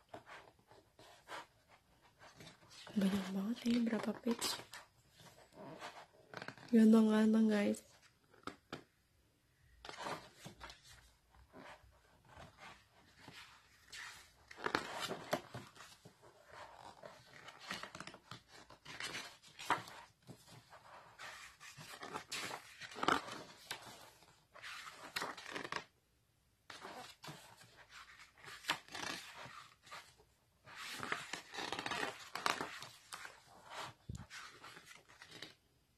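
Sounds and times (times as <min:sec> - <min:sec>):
pages turning and rustling: 0:00.0 - 0:06.8, 0:09.8 - 0:25.9, 0:26.7 - 0:35.6.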